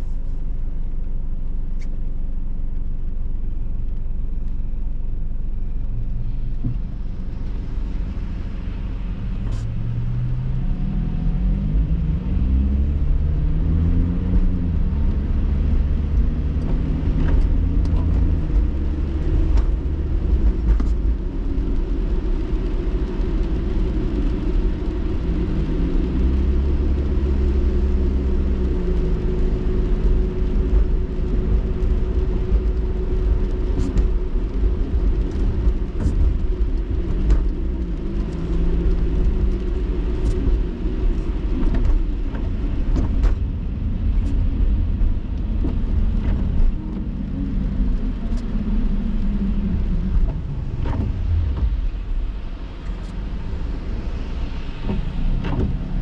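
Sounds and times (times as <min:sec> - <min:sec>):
car engine: 0:00.0 - 0:56.0
tyres on wet road: 0:00.0 - 0:56.0.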